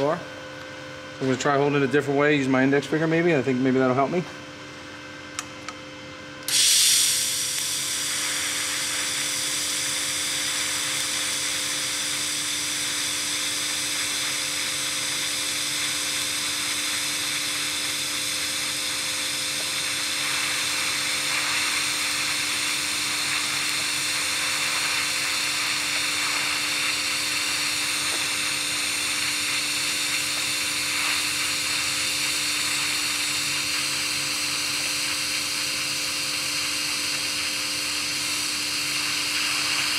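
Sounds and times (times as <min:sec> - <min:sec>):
welding arc hissing: 0:06.4 - 0:39.9.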